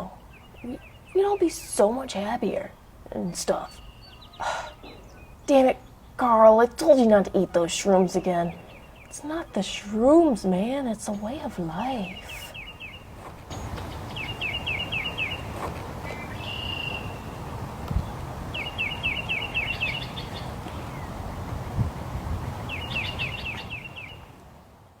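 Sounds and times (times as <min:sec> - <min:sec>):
outdoor background noise: 0:00.0 - 0:25.0
songbird singing: 0:00.0 - 0:25.0.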